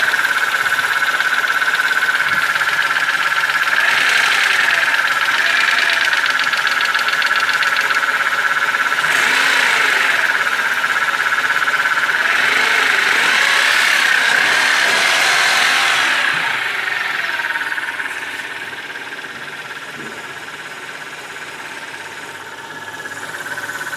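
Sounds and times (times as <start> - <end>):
car engine with lifter clatter: 0.0 - 23.9.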